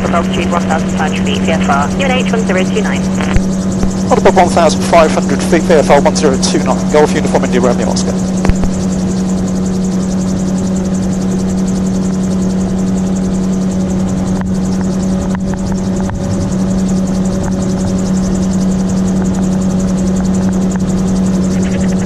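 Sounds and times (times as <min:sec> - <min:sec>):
gyrocopter engine drone: 0:00.0 - 0:22.0.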